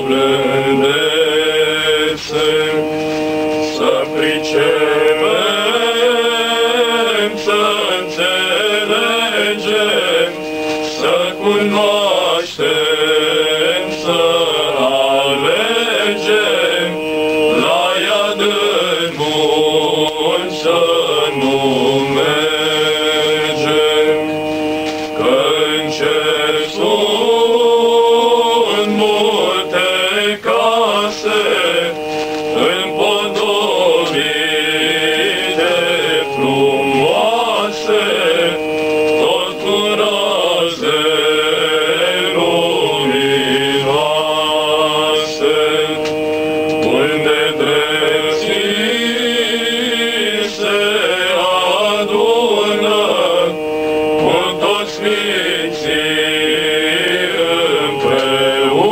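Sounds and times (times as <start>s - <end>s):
male vocal group singing: 0.0s - 58.9s.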